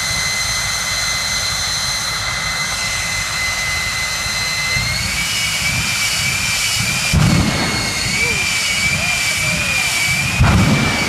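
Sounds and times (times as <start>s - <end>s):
jet engine rushing with whine: 0.0s - 11.0s.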